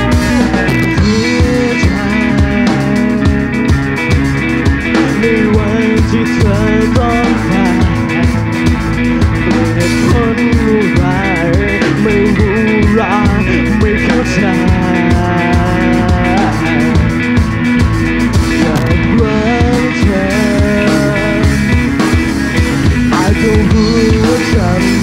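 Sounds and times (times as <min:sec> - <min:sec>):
man singing: 0:00.0 - 0:08.5, 0:09.2 - 0:17.4, 0:18.4 - 0:25.0
bass guitar: 0:00.0 - 0:25.0
drum kit: 0:00.0 - 0:25.0
electric guitar: 0:00.0 - 0:25.0.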